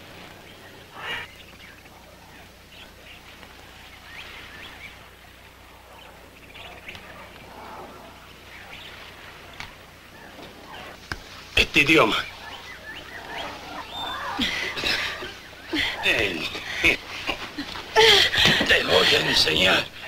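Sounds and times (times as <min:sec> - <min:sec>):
birds chirping: 0:00.0 - 0:20.0
faint steady hum: 0:00.0 - 0:20.0.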